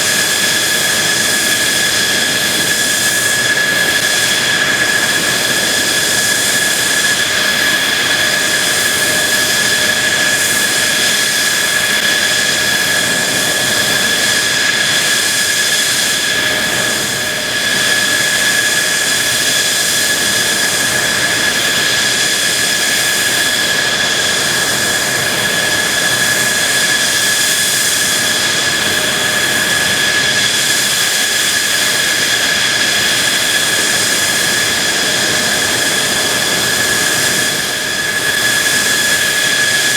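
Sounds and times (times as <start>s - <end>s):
high steady whine: 0.0s - 39.9s
jet engine roaring: 0.0s - 39.9s.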